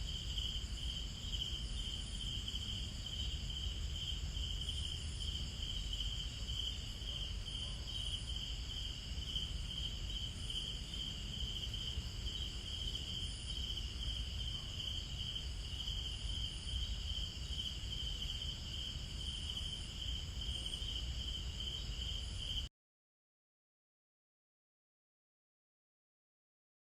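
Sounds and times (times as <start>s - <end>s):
crickets trilling: 0.0s - 22.7s.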